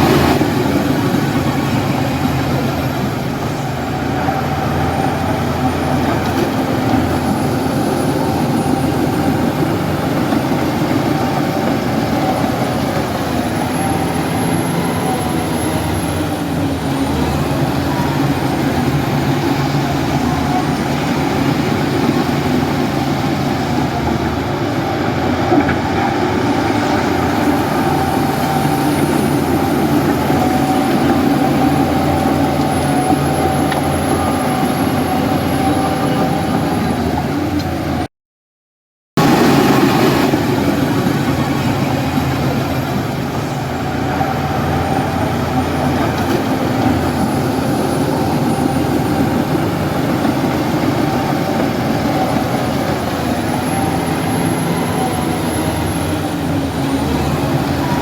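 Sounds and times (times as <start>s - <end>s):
bulldozer diesel engine running: 0.0s - 38.1s, 39.2s - 58.0s.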